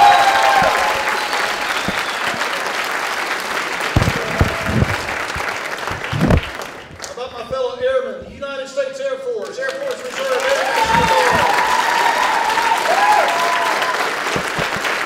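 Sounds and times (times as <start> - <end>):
audience applauding: 0.0 - 7.3, 9.4 - 15.0.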